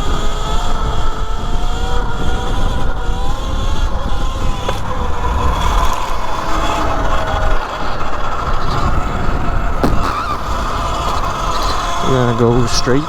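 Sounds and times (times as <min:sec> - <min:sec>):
electric motorbike motor whining: 0:00.0 - 0:13.0
wind rumble on microphone: 0:00.0 - 0:13.0.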